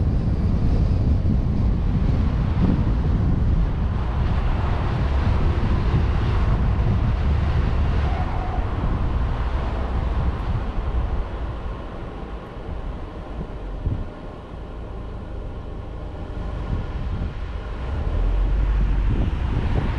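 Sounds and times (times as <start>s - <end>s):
vehicle driving rumble: 0.0s - 19.9s
wind rushing over microphone: 0.0s - 19.9s.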